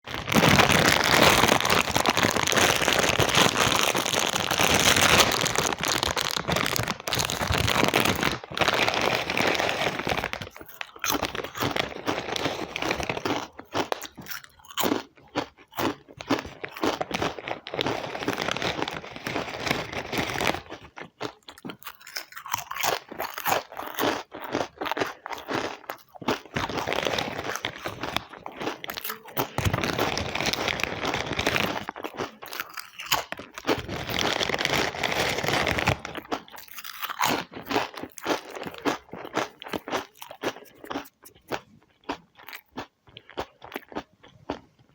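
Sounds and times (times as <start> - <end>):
potato chips crunched and chewed: 0.1 - 44.9.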